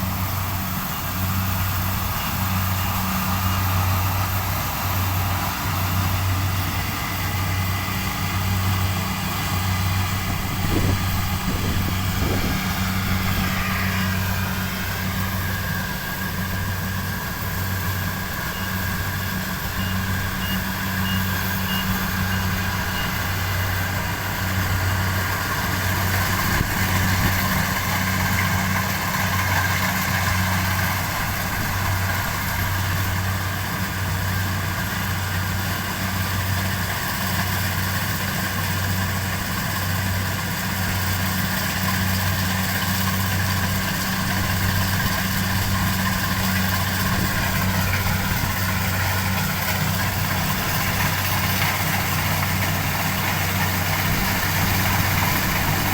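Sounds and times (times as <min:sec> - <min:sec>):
harvester engine hum: 0:00.0 - 0:55.9.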